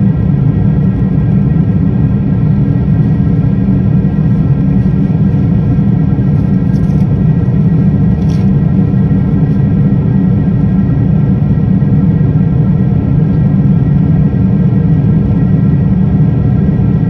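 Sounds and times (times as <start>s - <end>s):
jet engine and airflow rumble: 0.0s - 17.0s.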